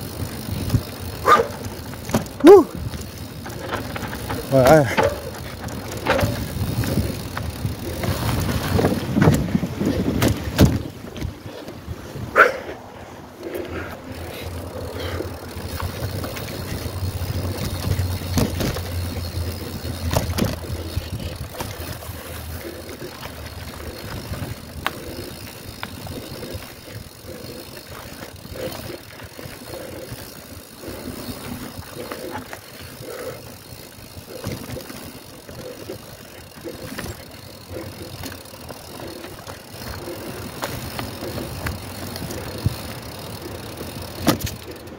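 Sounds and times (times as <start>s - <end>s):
bike rattling and knocking: 0.0s - 12.6s, 13.7s - 44.9s
bike tyres on dirt: 0.0s - 44.9s.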